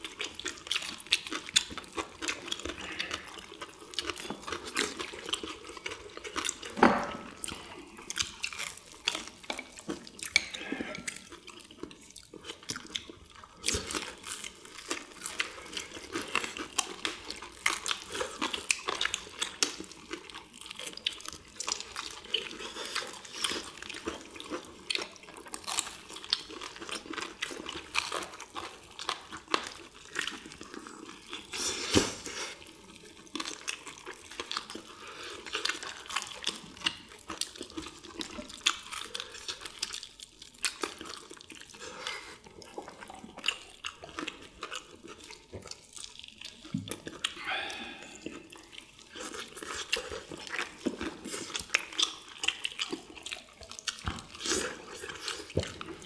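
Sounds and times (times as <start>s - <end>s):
crisp crunching of fried food: 0.0s - 56.0s
wet chewing: 0.0s - 56.0s.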